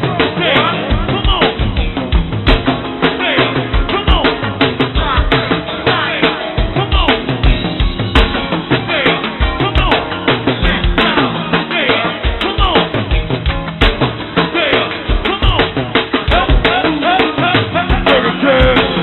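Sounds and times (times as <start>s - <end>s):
person singing: 0.0s - 1.7s, 3.0s - 7.5s, 8.7s - 13.2s, 14.4s - 19.0s
drum kit and percussion groove: 0.0s - 19.0s.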